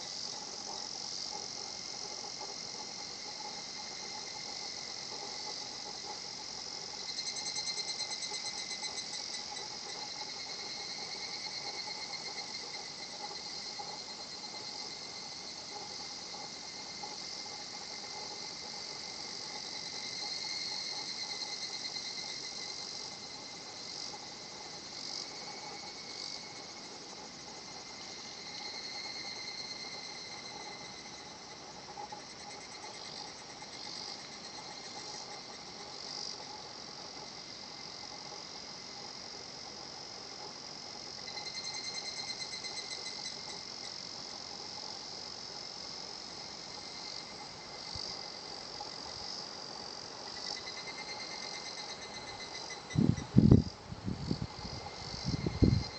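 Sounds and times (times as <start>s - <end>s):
cicadas pulsing trills: 0.0s - 55.9s.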